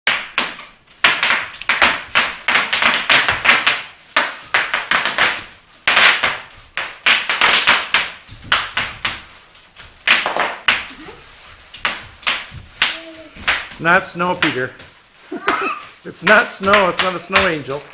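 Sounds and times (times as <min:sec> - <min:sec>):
bubble wrap popping: 0:00.1 - 0:17.9
plastic crinkling: 0:00.5 - 0:17.9.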